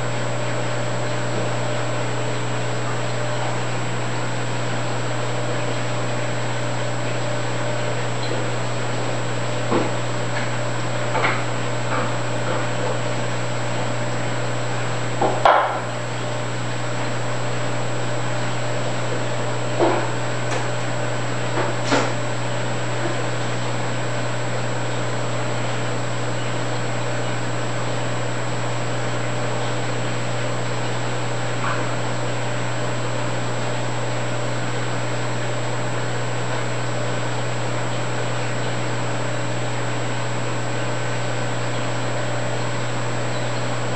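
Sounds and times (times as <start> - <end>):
aquarium pumps humming: 0.0 - 43.9.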